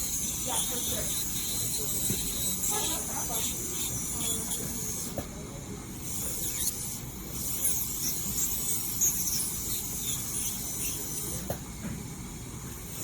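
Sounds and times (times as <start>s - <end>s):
dental drill grinding acrylic: 0.0s - 5.2s, 6.0s - 11.5s, 12.7s - 13.0s.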